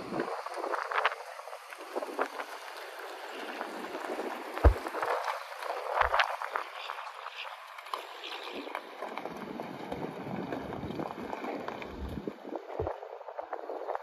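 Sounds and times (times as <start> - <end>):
pickup truck driving slowly: 0.0 - 12.3
tyres crunching on gravel: 0.0 - 12.4.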